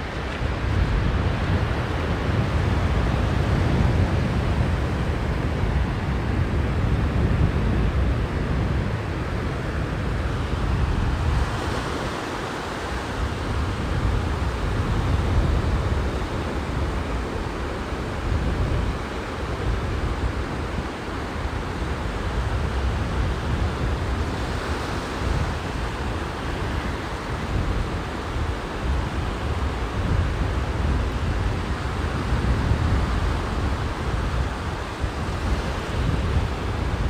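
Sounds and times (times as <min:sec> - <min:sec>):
sea surf washing onto beach: 0:00.0 - 0:37.0
wind buffeting microphone: 0:00.0 - 0:37.0.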